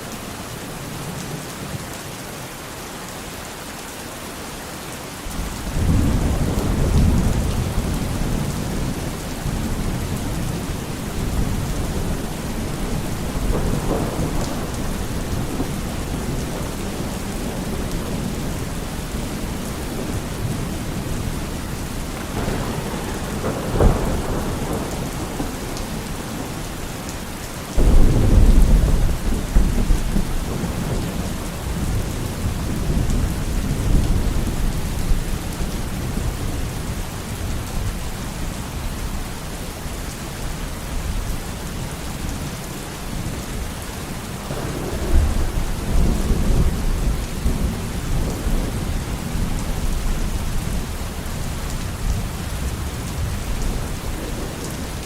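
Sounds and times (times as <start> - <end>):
steady rain: 0.0 - 55.0
thunder rumbling: 5.5 - 39.2, 44.4 - 55.0.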